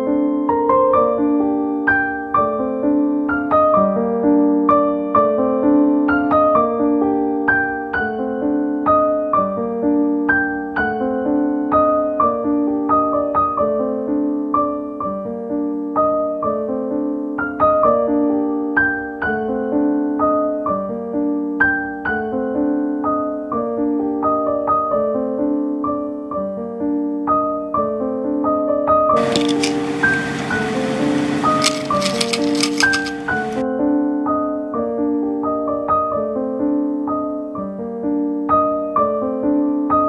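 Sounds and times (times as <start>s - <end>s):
gentle piano music: 0.0s - 40.0s.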